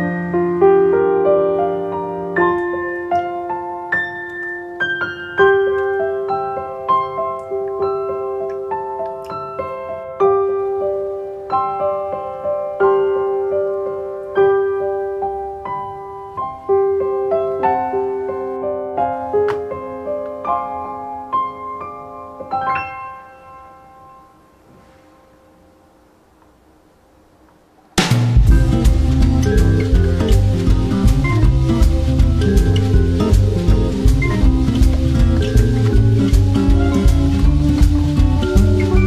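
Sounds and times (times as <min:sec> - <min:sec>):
slow piano melody: 0:00.0 - 0:26.6, 0:28.0 - 0:39.0.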